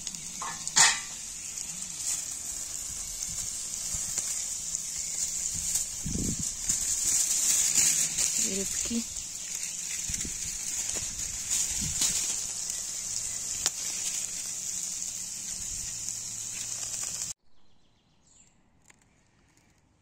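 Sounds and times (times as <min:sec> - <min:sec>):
cicadas chirring: 0:00.0 - 0:17.4.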